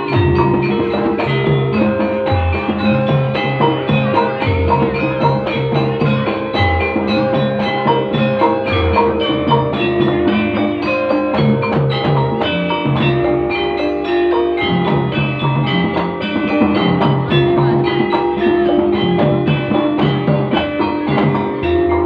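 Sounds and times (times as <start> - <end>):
steady drumming: 0.0 - 22.0
tuned metal percussion melody: 0.0 - 22.0.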